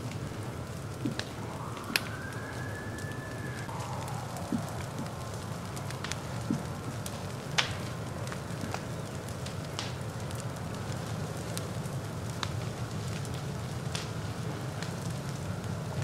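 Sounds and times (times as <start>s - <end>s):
burning wood crackling: 0.0s - 16.0s
low rush of flames: 0.0s - 16.0s.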